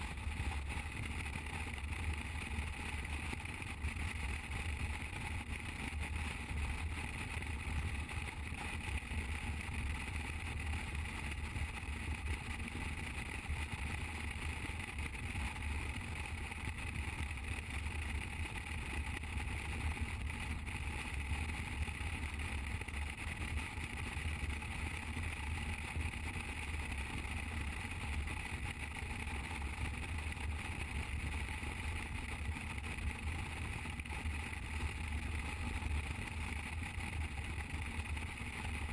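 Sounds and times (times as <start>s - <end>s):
motorcycle engine drone: 0.0s - 38.9s.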